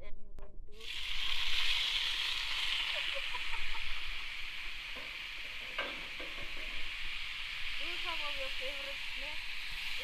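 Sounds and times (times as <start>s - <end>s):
sausages sizzling in a frying pan: 0.8s - 10.0s.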